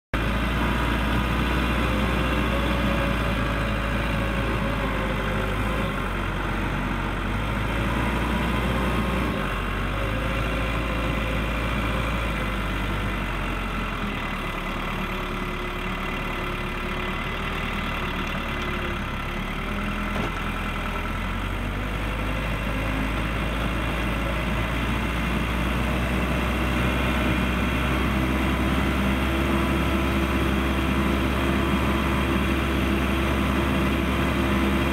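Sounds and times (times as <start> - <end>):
diesel backhoe engine running: 0.2 - 34.9.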